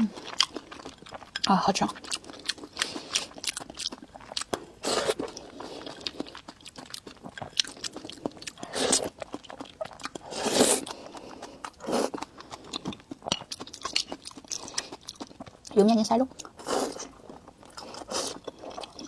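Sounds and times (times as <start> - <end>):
chewing with wet mouth clicks: 0.2 - 19.0.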